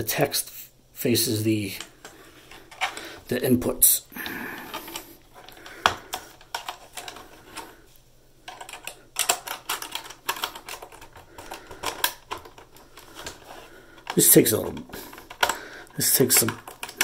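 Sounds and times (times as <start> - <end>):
plastic parts clicking and rattling: 1.7 - 3.3, 4.2 - 7.8, 8.4 - 17.0.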